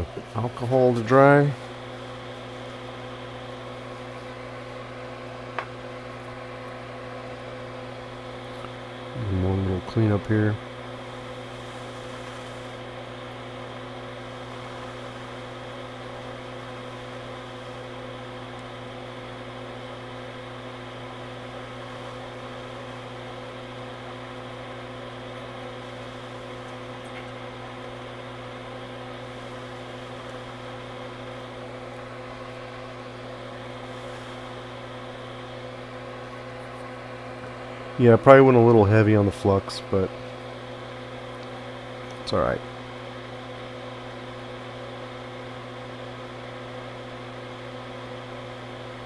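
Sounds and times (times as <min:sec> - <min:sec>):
electric fan motor humming: 0:00.0 - 0:49.0.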